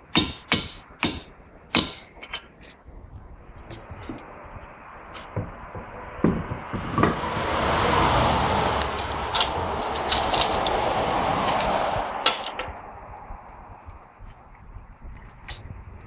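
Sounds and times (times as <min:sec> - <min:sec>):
steady rushing noise: 0:00.8 - 0:16.0.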